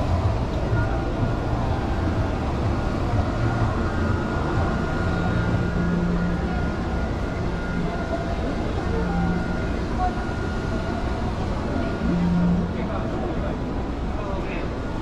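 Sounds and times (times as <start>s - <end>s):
faint distant voices: 0.0s - 15.0s
thin steady tones: 0.0s - 15.0s.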